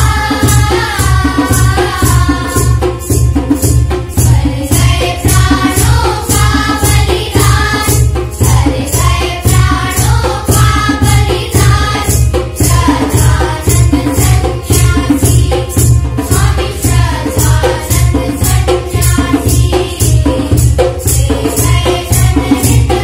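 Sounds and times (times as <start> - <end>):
backing track with steady beat: 0.0 - 23.0
children singing: 0.0 - 23.0
jingling shaker percussion: 0.0 - 23.0.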